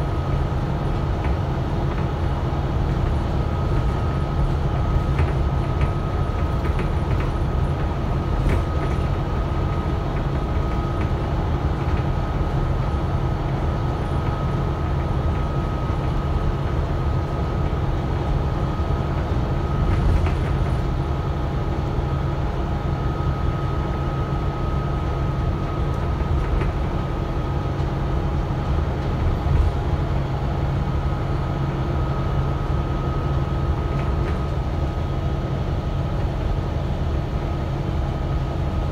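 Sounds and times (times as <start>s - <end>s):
bus diesel engine rumble: 0.0s - 38.9s.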